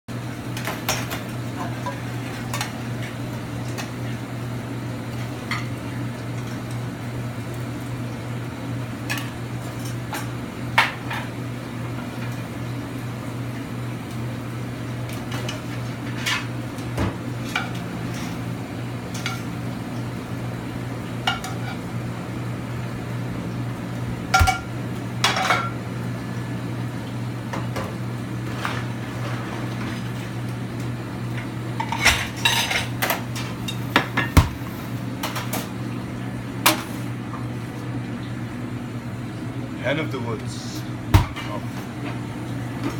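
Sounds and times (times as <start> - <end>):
kitchen ventilation hum: 0.1 - 42.9.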